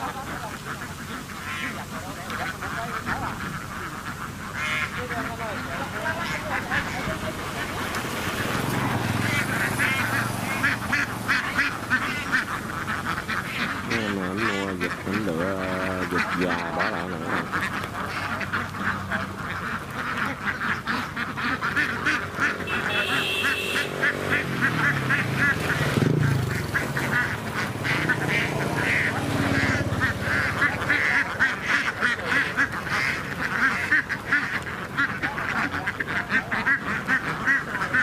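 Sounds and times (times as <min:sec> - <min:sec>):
ducks quacking: 0:00.0 - 0:38.0.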